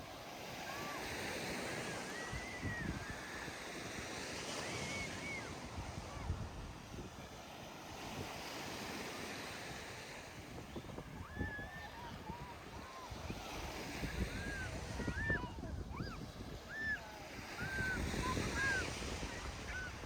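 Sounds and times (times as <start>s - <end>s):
surf washing onto beach: 0.0s - 20.0s
wind rumbling on microphone: 0.6s - 7.3s, 10.1s - 20.0s.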